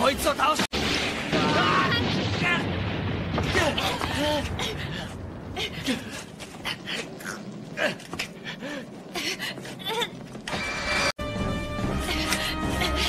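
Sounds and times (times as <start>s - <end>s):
sharp crackles: 0.3s - 11.1s.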